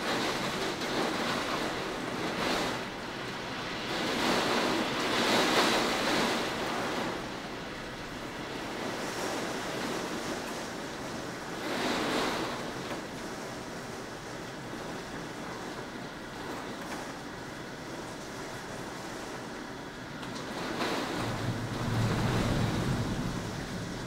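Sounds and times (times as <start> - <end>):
storm wind gusting: 0.0 - 24.0.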